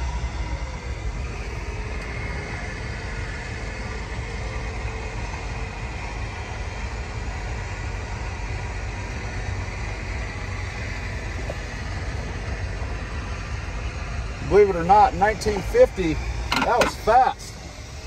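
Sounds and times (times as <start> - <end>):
convertible top mechanical hum: 0.0 - 18.0.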